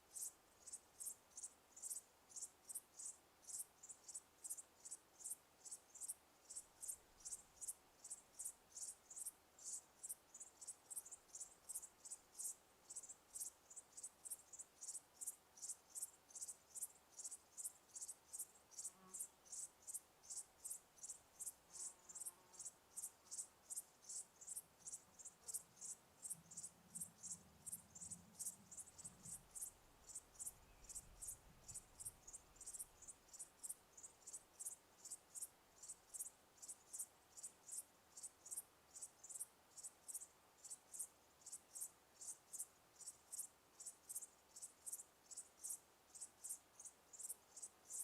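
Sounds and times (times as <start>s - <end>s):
cricket chirping: 0.0s - 48.0s.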